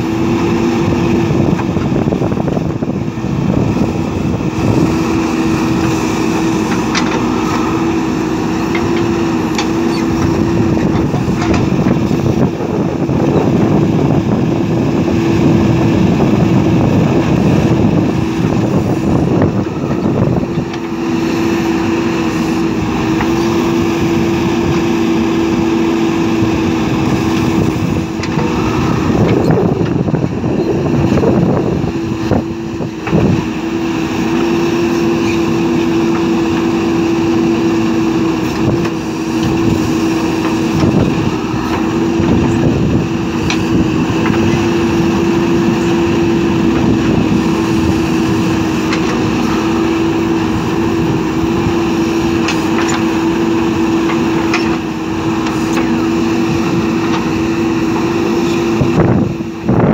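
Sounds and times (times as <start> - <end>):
diesel engine rumble: 0.0 - 59.9
steady whine: 0.0 - 59.9.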